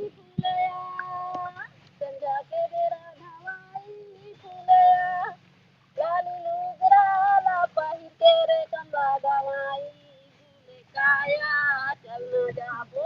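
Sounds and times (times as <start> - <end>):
high solo voice singing folk song: 0.0 - 13.0.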